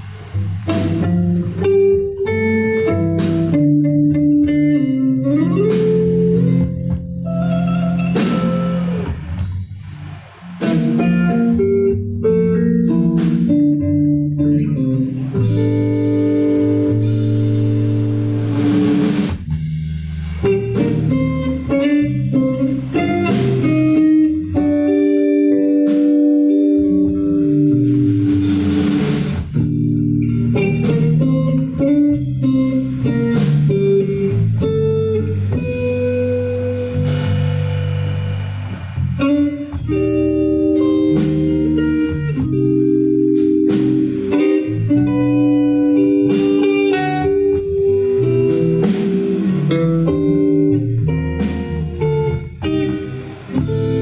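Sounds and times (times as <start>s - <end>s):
bass guitar: 0.0s - 54.0s
electric guitar lines: 0.0s - 54.0s.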